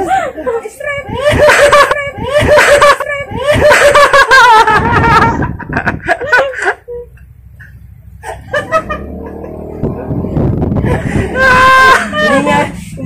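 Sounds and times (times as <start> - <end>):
woman laughing: 0.0 - 7.2, 8.2 - 10.0, 10.8 - 12.9.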